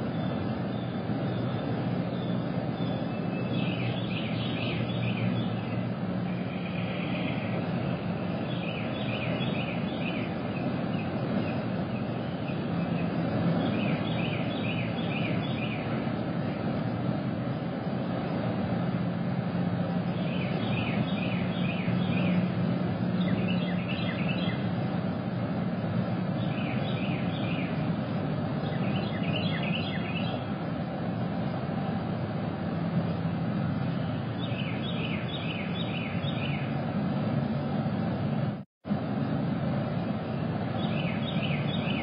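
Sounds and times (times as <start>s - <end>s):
birds chirping: 0.0s - 32.0s, 33.1s - 36.9s, 40.4s - 42.0s
low mechanical hum: 0.0s - 42.0s.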